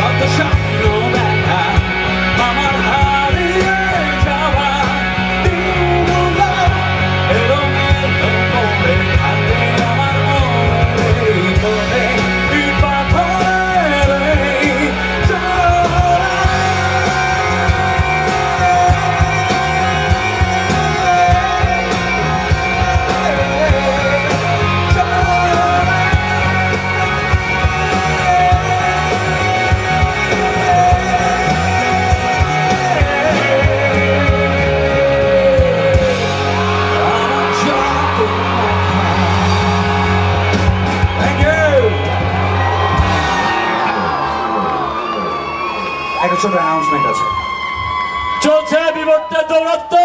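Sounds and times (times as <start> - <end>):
live rock band: 0.0 - 50.0.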